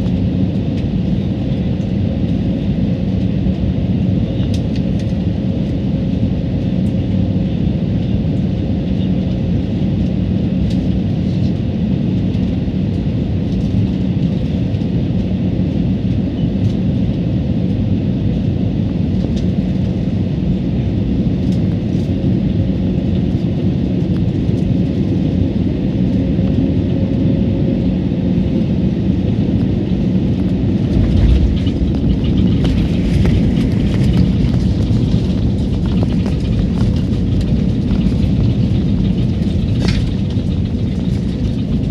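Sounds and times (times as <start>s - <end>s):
airliner cabin engine rumble: 0.0s - 41.9s.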